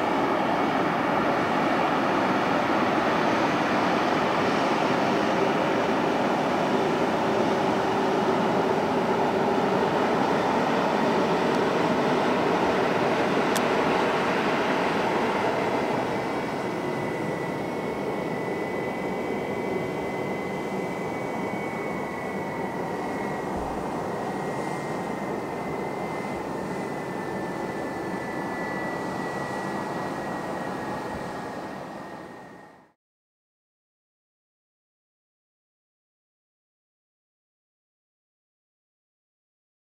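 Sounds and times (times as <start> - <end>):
high engine whine: 0.0 - 33.0
jet engines and airflow in cabin: 0.0 - 33.0.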